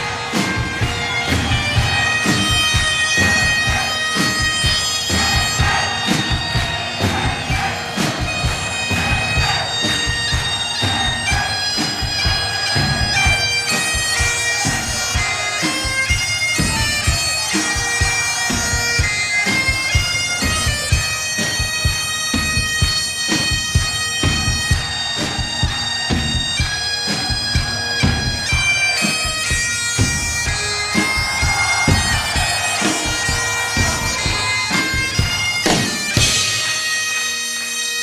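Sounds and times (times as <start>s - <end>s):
drum beating: 0.0s - 37.7s
bagpipes playing a tune: 0.0s - 38.0s.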